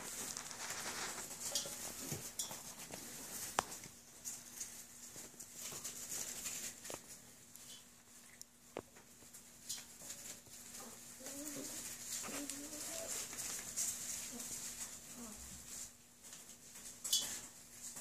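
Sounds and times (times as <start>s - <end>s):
rustling in wood shavings: 0.0s - 18.0s.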